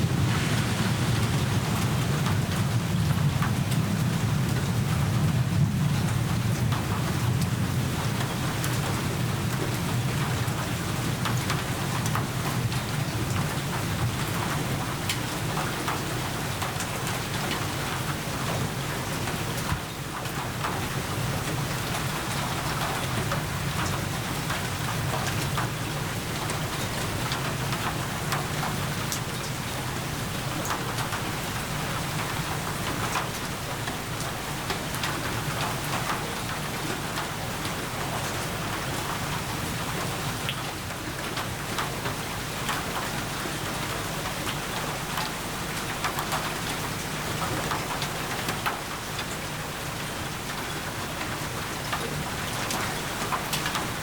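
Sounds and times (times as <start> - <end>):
steady rain falling: 0.0 - 54.0
raindrops ticking: 6.1 - 54.0.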